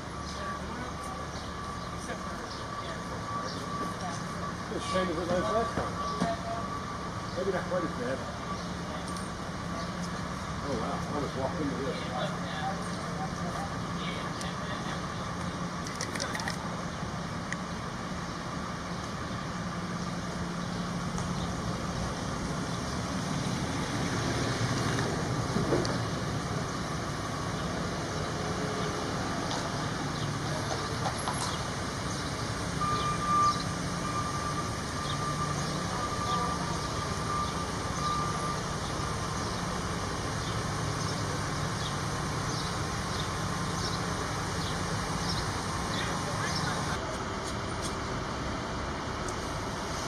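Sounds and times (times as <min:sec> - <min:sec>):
vehicle engine rumbling: 0:00.0 - 0:50.0.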